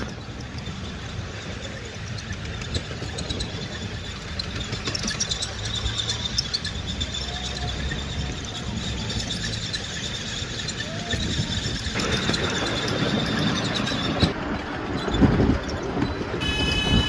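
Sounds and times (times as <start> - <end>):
miniature train rumbling on track: 0.0 - 17.0.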